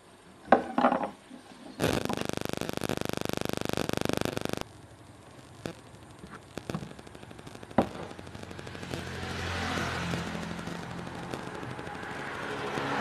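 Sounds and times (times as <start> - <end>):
rising noise with low hum: 1.8 - 13.0.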